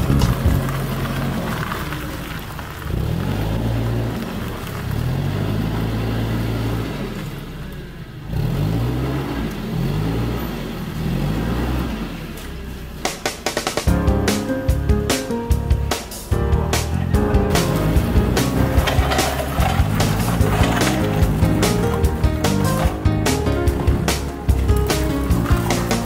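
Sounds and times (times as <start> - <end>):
forklift engine revving: 0.0 - 26.0.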